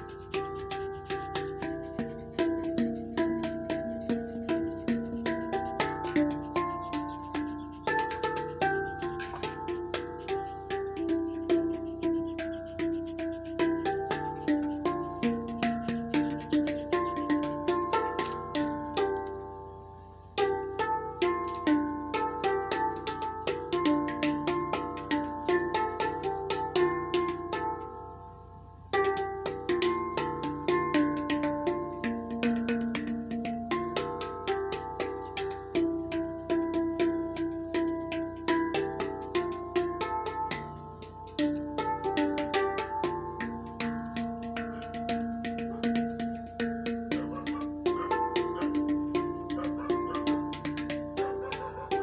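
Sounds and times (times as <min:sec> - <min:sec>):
steel drum melody: 0:00.0 - 0:52.0.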